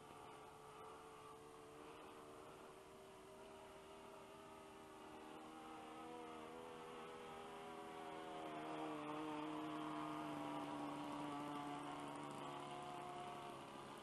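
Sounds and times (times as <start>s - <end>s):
model plane engine drone: 0.0s - 14.0s.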